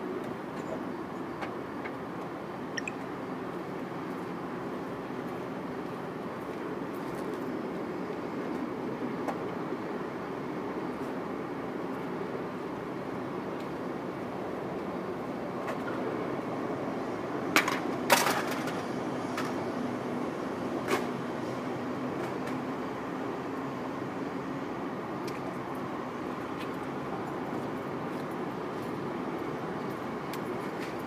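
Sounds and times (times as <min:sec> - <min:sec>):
distant road traffic rumble: 0:00.0 - 0:31.0.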